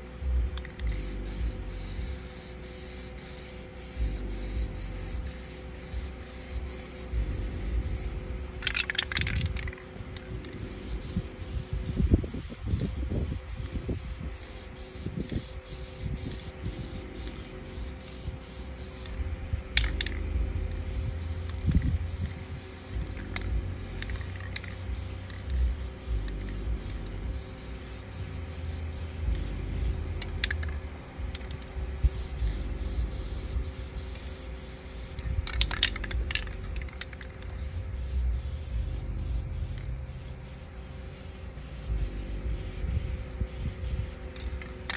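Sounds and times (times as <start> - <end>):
steady low rumble: 0.0 - 44.9
spray paint can hissing: 0.6 - 44.9.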